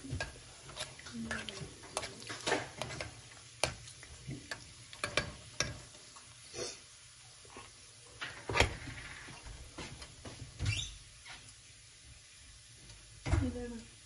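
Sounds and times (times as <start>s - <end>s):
spoon stirring in a pan: 0.0s - 11.7s
spices sizzling in hot oil: 0.0s - 14.0s.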